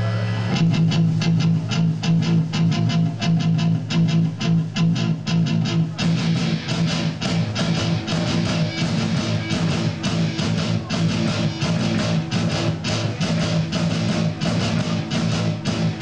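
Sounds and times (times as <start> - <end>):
live rock band playing: 0.5 - 16.0.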